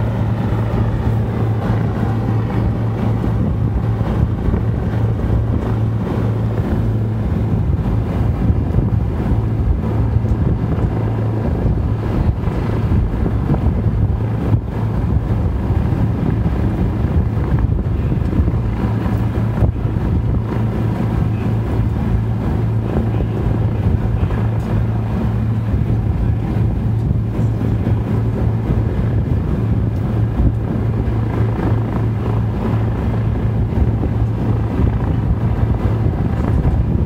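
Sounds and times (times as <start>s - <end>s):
aircraft engines droning: 0.0s - 37.0s
propeller noise: 0.0s - 37.0s.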